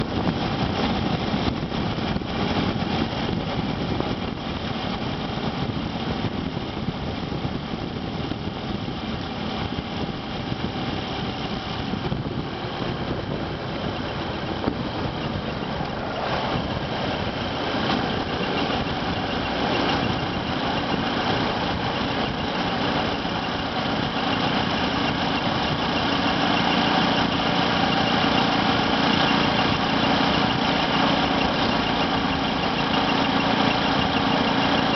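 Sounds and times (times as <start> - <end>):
motorcycle engine idling: 0.0 - 34.9
squeaking creaking engine noise: 0.0 - 34.9.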